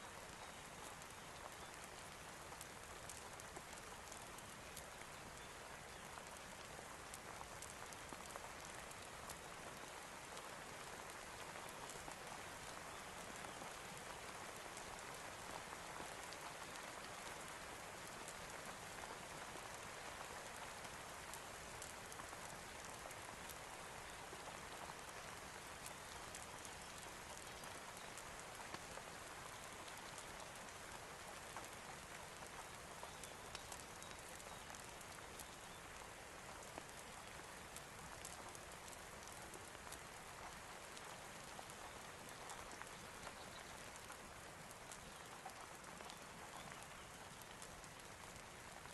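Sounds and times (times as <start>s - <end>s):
faint ticks of raindrops: 0.0s - 48.9s
steady rain: 0.0s - 48.9s.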